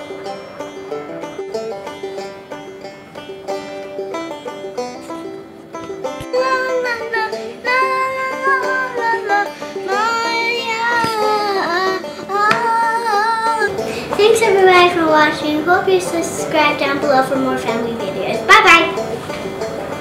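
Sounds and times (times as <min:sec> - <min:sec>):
song with plucked strings and singing: 0:00.0 - 0:20.0.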